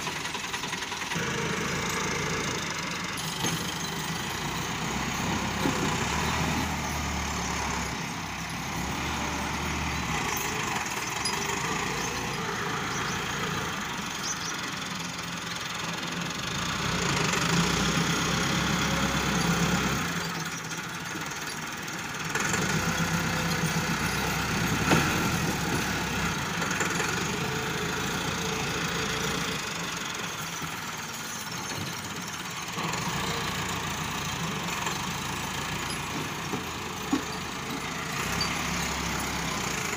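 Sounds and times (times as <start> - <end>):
diesel tractor engine working: 0.0 - 39.9.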